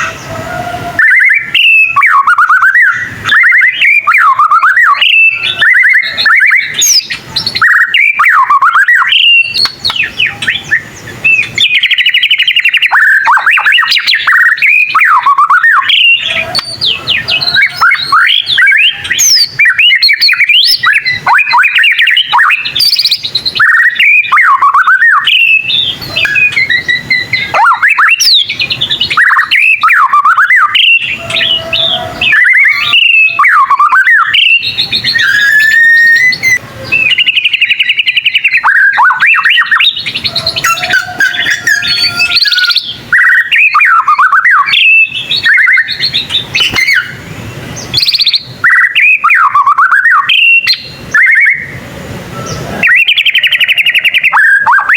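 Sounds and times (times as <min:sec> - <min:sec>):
bird singing whistled song: 0:00.0 - 0:51.8, 0:52.4 - 0:54.9.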